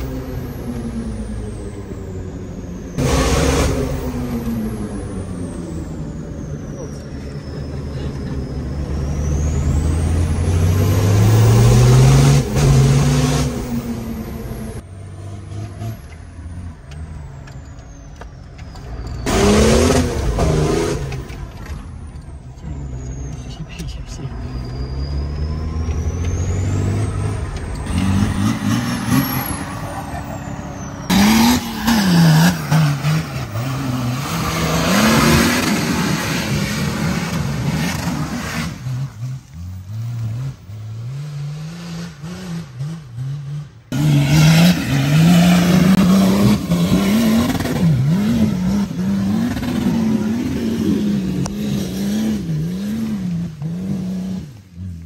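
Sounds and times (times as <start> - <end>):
diesel engine revving hard: 2.8 - 5.9, 6.5 - 16.0, 19.2 - 21.4, 24.3 - 55.0.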